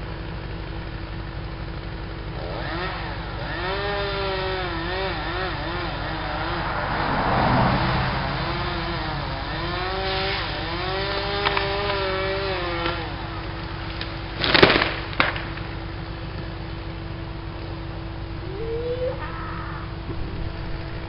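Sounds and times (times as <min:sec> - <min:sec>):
chainsaw cutting and idling: 0:00.3 - 0:18.4.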